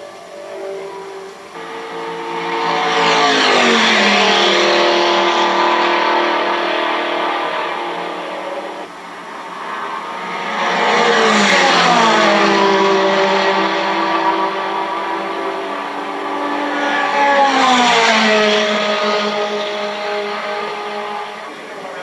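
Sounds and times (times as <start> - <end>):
race cars passing at speed: 0.0 - 22.0.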